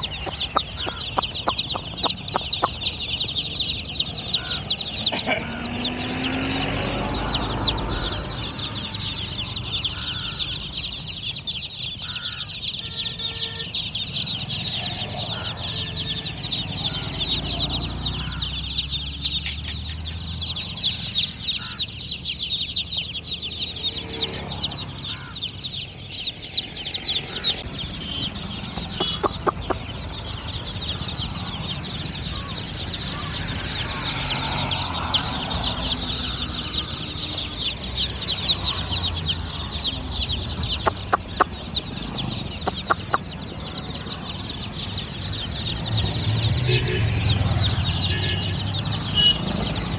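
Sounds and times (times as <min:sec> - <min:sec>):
baby chicks peeping: 0:00.0 - 0:49.9.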